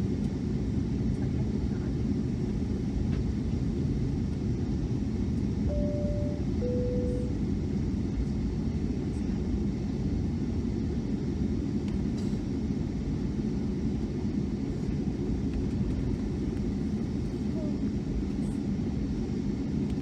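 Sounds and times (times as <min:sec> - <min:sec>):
airliner engines and airflow rumble: 0:00.0 - 0:20.0.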